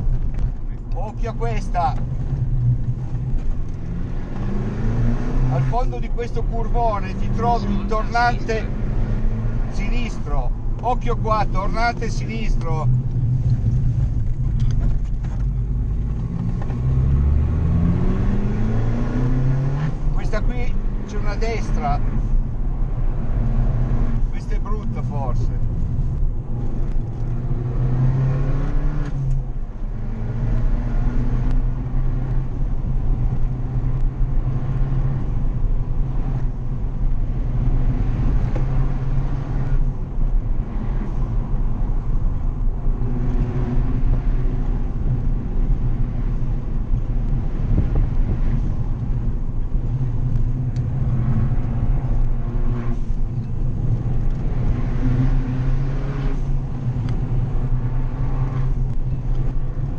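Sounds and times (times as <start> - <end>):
car engine from inside cabin: 0.0 - 59.9.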